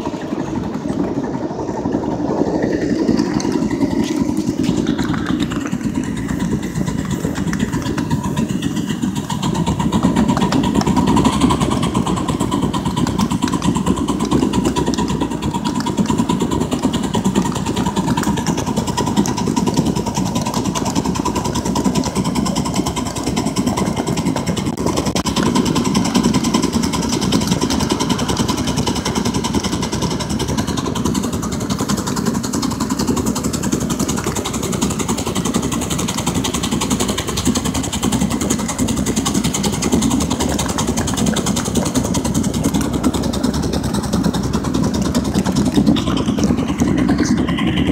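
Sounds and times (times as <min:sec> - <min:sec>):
rumble of running gear: 0:00.0 - 0:47.9
steam locomotive chuffing: 0:00.0 - 0:47.9.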